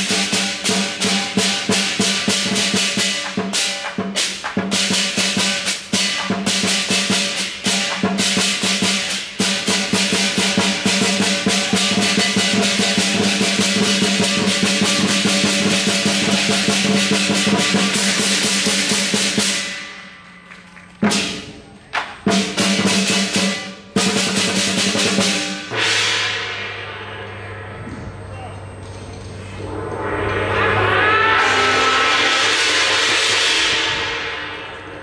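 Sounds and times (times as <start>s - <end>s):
large drum fast roll: 0.0s - 20.0s, 22.2s - 28.2s, 29.6s - 35.0s
cymbals clashing: 0.0s - 21.6s, 22.2s - 35.0s.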